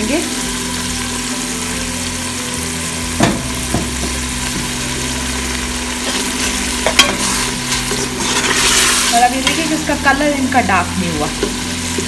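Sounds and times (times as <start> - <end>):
food sizzling in pot: 0.0 - 12.0.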